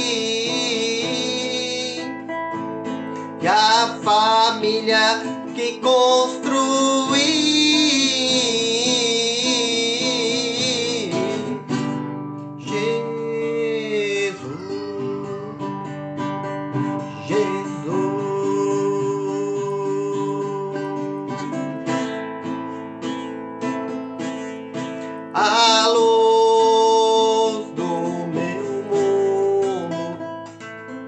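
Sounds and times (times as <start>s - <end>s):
acoustic guitar playing: 0.0s - 31.0s
person singing: 0.0s - 31.0s.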